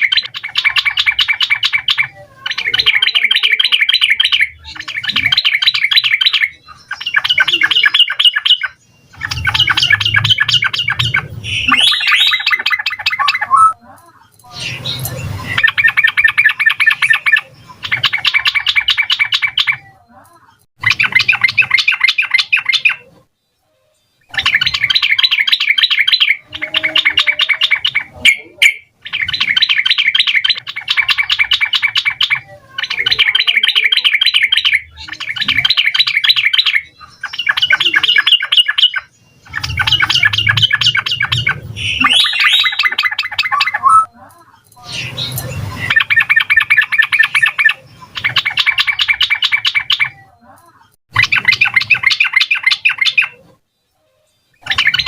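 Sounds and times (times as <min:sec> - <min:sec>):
bulbul chattering song: 0:00.0 - 0:23.3, 0:24.0 - 0:53.6, 0:54.3 - 0:55.0.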